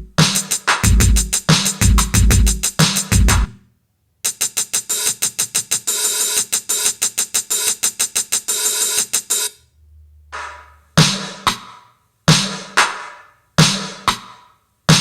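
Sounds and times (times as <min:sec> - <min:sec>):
drum machine hi-hat roll: 0:00.0 - 0:03.5, 0:04.2 - 0:09.6, 0:10.3 - 0:15.0.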